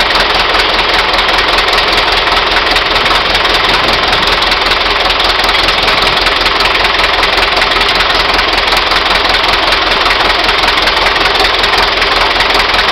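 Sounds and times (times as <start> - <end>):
crawler tractor engine running: 0.0 - 12.9.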